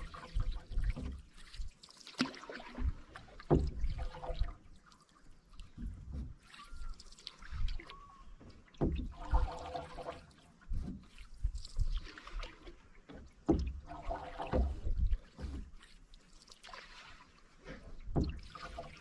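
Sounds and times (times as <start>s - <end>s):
canoe paddle strokes in water: 0.0s - 19.0s
water trickling and dripping: 0.0s - 19.0s.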